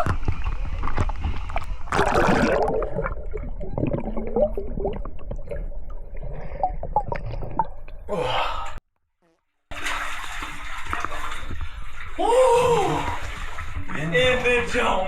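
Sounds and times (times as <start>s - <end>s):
water splashing: 0.0s - 8.1s, 9.7s - 15.0s
water sloshing and dripping: 0.0s - 8.7s, 9.7s - 15.0s.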